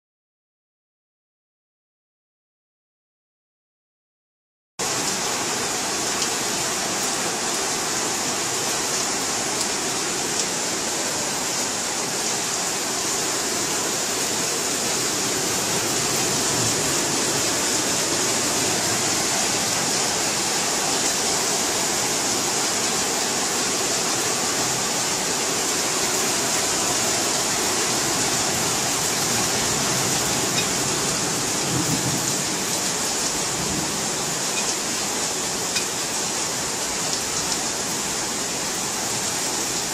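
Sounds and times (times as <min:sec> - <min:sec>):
heavy rain pouring: 0:04.8 - 0:39.9.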